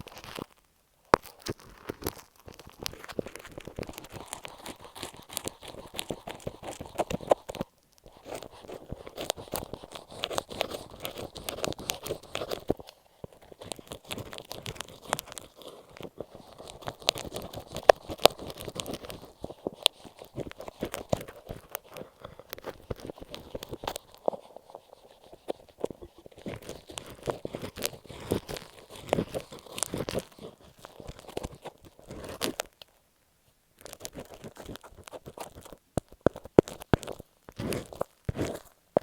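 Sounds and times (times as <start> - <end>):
tape crinkling on microphone: 0.0 - 39.0.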